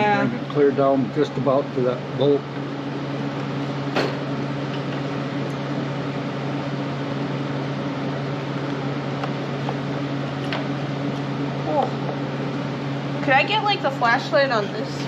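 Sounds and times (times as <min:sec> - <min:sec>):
welder electrical hum: 0:00.0 - 0:15.0.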